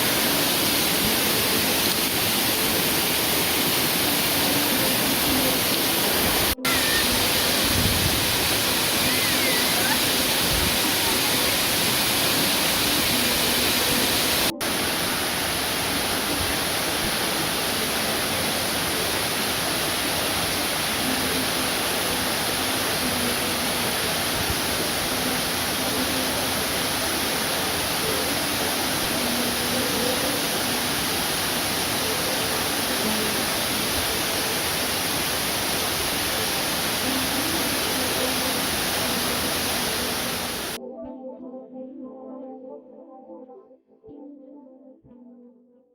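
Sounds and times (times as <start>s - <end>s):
waterfall rushing: 0.0s - 40.8s.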